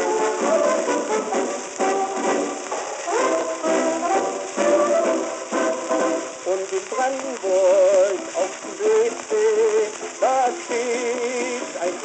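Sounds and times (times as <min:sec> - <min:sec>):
old record orchestra march: 0:00.0 - 0:12.0
record surface hiss and crackle: 0:00.0 - 0:12.0.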